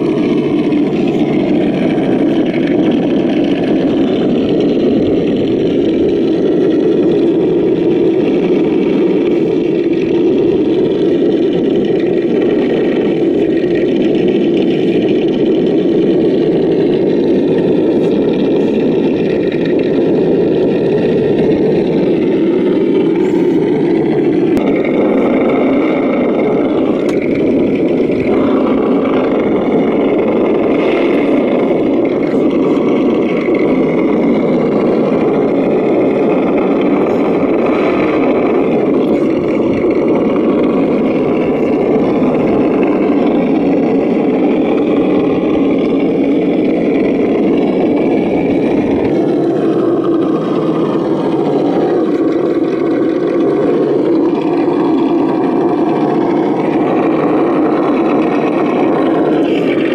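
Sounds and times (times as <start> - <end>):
simulated engine rumble: 0.0 - 59.9.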